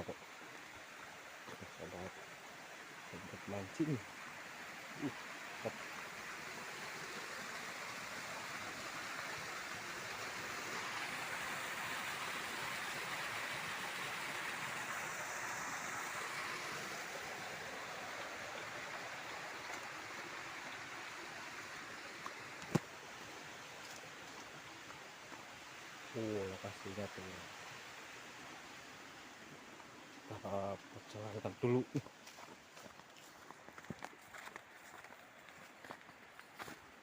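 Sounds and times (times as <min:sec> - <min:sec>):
flowing river water: 0:00.0 - 0:37.0.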